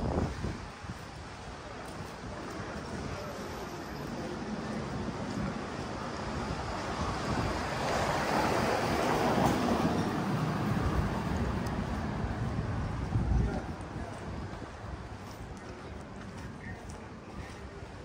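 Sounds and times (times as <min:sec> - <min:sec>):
rushing street noise: 0:00.0 - 0:18.0.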